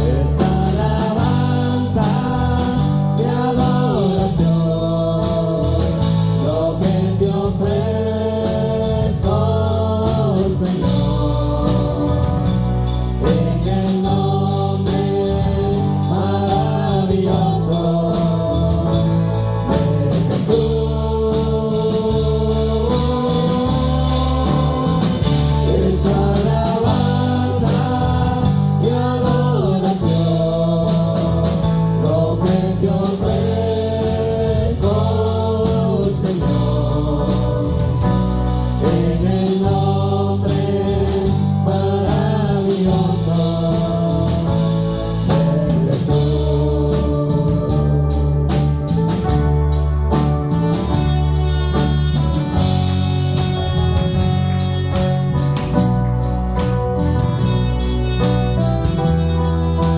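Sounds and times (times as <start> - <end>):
bass line: 0.0 - 59.9
drums: 0.0 - 59.9
voices singing gospel: 0.0 - 59.9.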